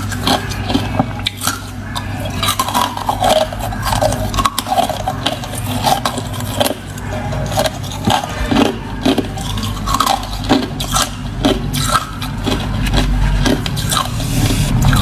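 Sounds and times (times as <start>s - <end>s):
ice crunching between teeth: 0.0s - 15.0s.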